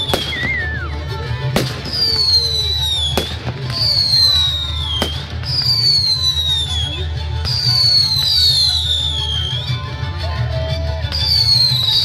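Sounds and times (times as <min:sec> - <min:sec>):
falling firework whistle: 0:00.0 - 0:01.0, 0:01.9 - 0:09.8, 0:11.1 - 0:12.0.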